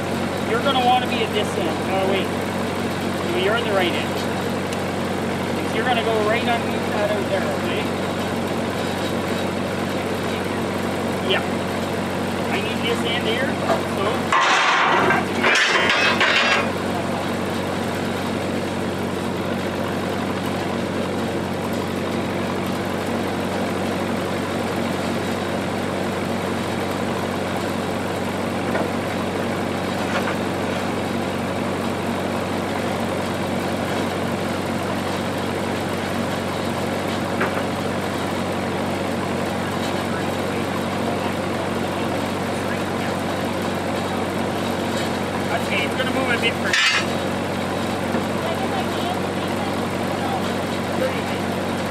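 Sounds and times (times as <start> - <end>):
generator engine running: 0.0 - 51.9.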